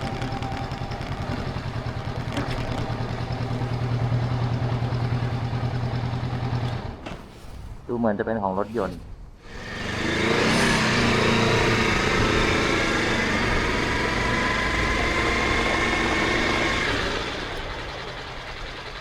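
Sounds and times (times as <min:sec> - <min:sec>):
motor vehicle engine running: 0:00.0 - 0:07.3, 0:09.4 - 0:19.0.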